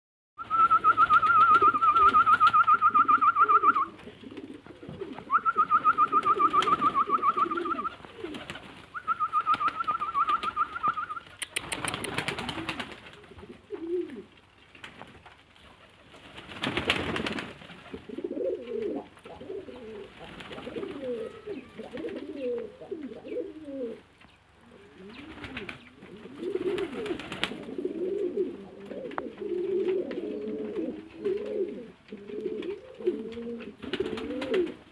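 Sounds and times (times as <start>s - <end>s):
pigeons cooing: 0.5s - 14.3s, 15.8s - 34.9s.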